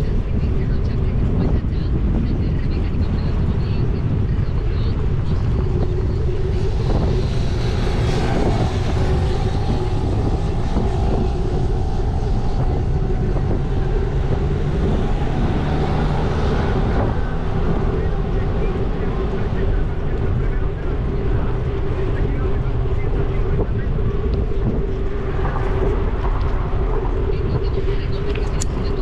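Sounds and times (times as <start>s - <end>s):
wind rumbling on microphone: 0.0s - 29.0s
car passing: 3.2s - 29.0s.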